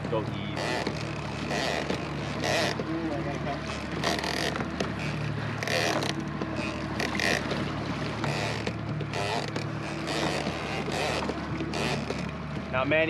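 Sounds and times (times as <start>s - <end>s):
outboard motor running: 0.0s - 13.0s
wind and water against hull: 0.0s - 13.0s.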